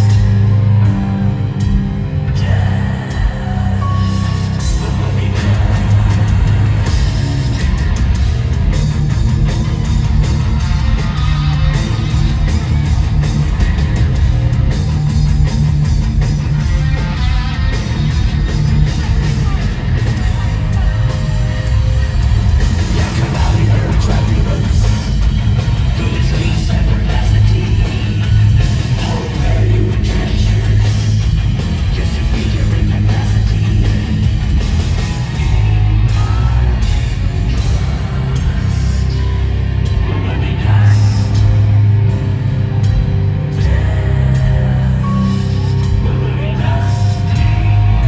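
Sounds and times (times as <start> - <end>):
heavy rock band playing live: 0.0 - 48.0.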